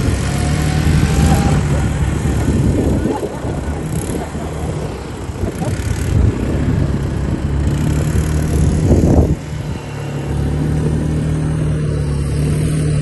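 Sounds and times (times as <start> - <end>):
quad engine drone: 0.0 - 13.0.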